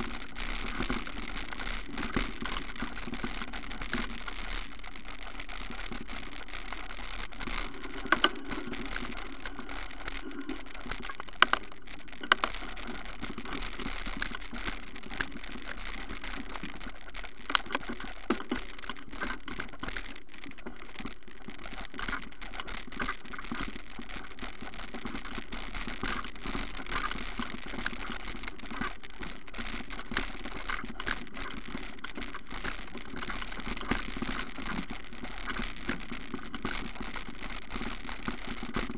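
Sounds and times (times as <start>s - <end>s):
low steady hum: 0.0s - 37.3s
sharp clicks and knocks: 0.0s - 38.9s.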